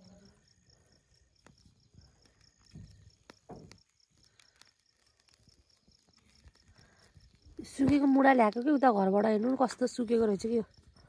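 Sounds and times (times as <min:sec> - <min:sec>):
insect chirping: 0:00.0 - 0:11.0
wood fire crackling: 0:00.0 - 0:11.0.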